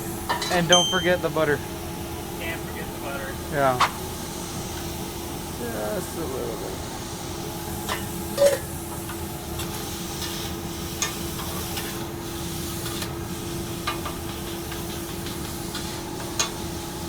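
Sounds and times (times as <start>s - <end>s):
steady hum: 0.0s - 17.0s
steak sizzling on a griddle: 3.2s - 17.0s.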